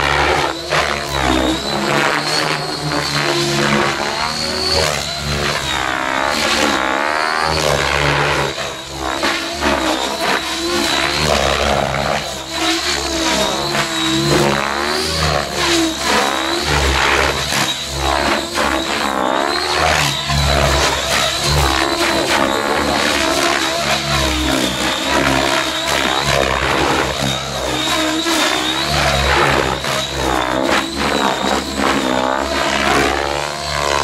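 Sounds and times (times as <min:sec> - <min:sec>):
high motor whine: 0:00.0 - 0:34.0
rotor blades rushing: 0:00.0 - 0:34.0.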